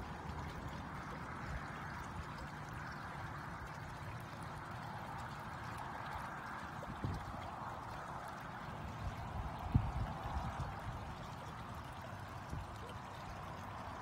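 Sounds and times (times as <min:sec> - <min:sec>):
pool water rushing: 0:00.0 - 0:14.0.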